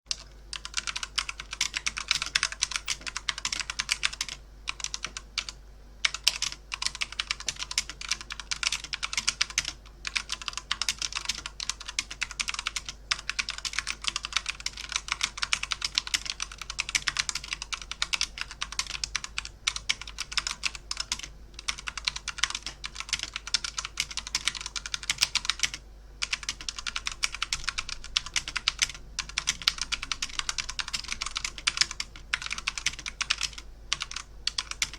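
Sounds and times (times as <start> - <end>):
keyboard typing clicks: 0.1 - 34.9.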